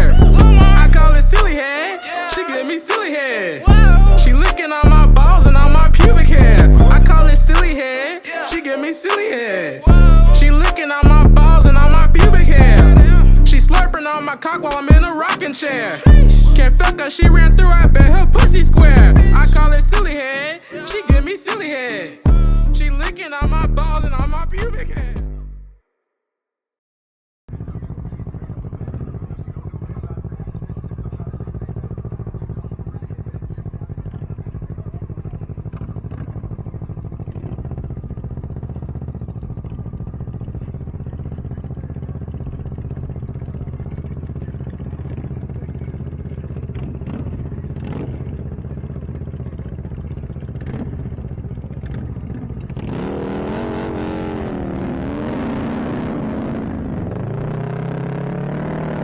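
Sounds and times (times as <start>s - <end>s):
motorcycle engine running: 0.0s - 2.0s, 3.3s - 8.1s, 9.9s - 15.3s, 16.0s - 20.3s, 22.3s - 25.3s, 27.5s - 59.0s.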